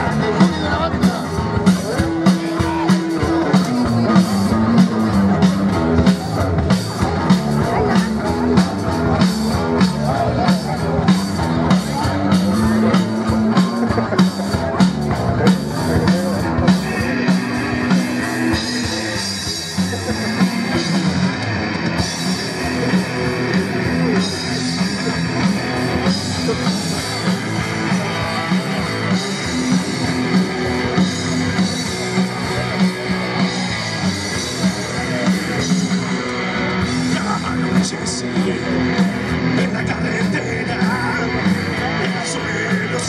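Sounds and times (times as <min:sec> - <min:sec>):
live rock band playing: 0:00.0 - 0:43.0
repeating low guitar riff: 0:00.0 - 0:43.0.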